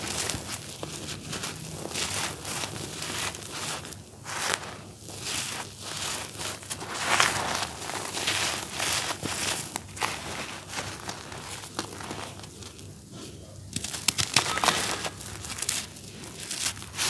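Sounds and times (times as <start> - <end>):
hands sifting charcoal powder: 0.0 - 17.0
sharp crackles: 0.0 - 17.0.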